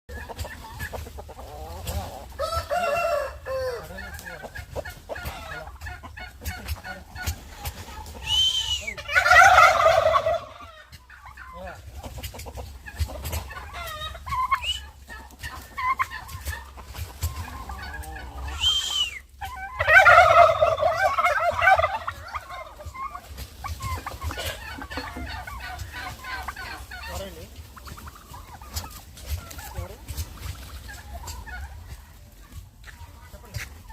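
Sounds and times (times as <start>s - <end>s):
poultry clucking: 0.1s - 33.9s
turkey gobbling: 0.1s - 33.9s.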